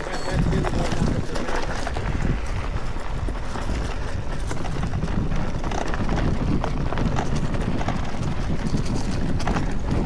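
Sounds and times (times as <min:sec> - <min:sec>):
bike knocking and rattling: 0:00.0 - 0:10.0
tyres rolling over dirt and stones: 0:00.0 - 0:10.0
wind buffeting microphone: 0:00.0 - 0:10.0.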